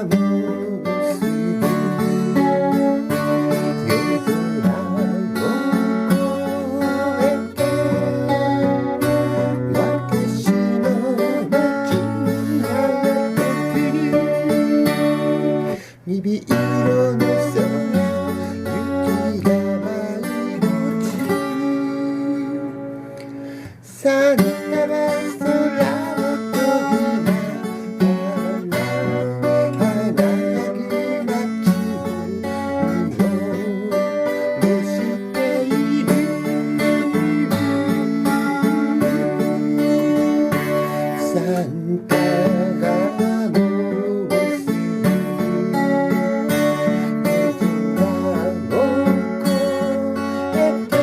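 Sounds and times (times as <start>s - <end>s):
acoustic guitar music: 0.0s - 51.0s.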